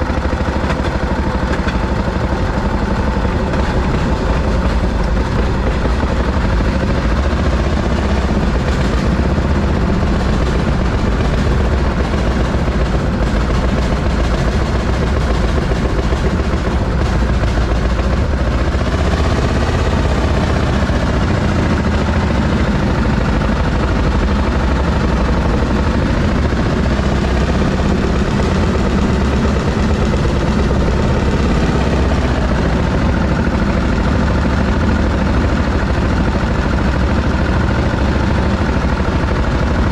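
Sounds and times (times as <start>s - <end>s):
rail motorcar engine running: 0.0s - 39.9s.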